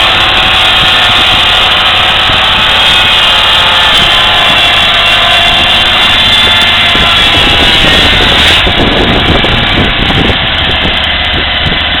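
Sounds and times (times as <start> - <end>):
ride-on mower engine running: 0.0 - 12.0.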